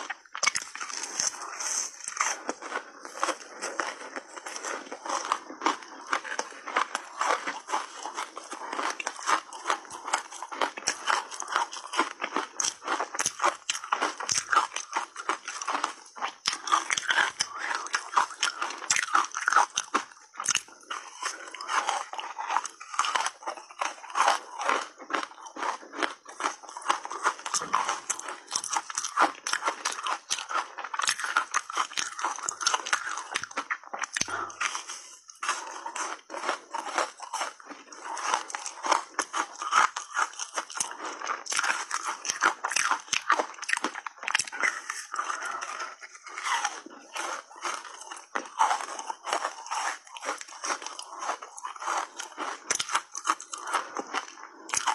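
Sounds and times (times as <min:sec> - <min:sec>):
ice crunching between teeth: 0:00.0 - 0:54.9.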